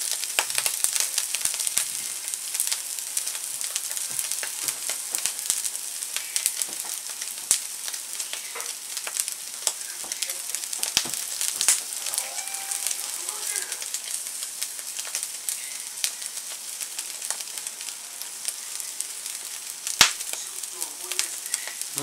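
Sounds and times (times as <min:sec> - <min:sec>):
shrimp heads sizzling in a pan: 0:00.0 - 0:22.0
small crackles and pops: 0:00.0 - 0:22.0.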